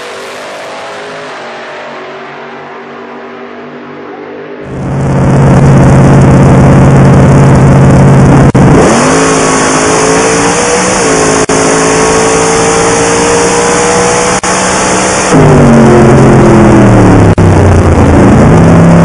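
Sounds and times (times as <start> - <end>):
race car engine at full throttle: 0.0 - 19.0.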